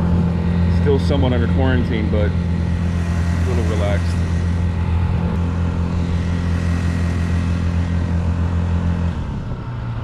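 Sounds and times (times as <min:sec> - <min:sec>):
outboard engine running: 0:00.0 - 0:10.0.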